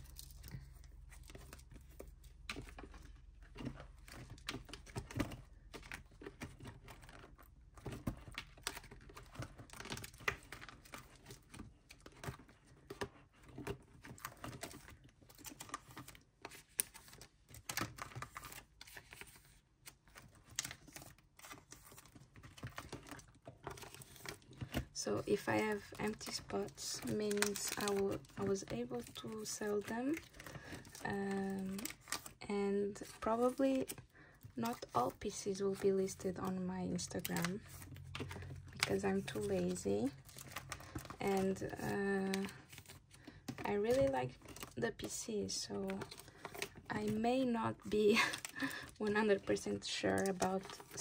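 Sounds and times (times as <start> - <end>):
plastic crinkling: 0.0 - 51.0.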